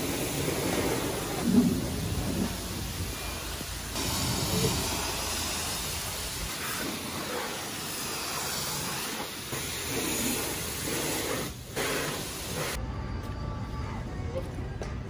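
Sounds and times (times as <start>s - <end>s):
high-pressure water jet hissing: 0.0s - 12.8s.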